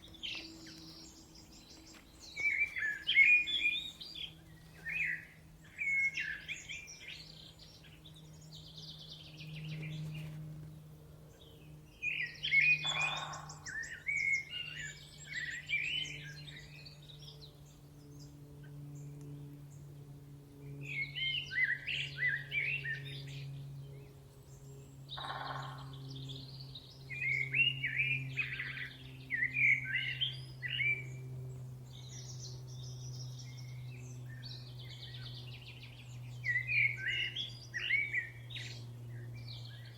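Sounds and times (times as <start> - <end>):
songbirds chirping: 0.0 - 39.9
steady low hum: 0.0 - 39.9.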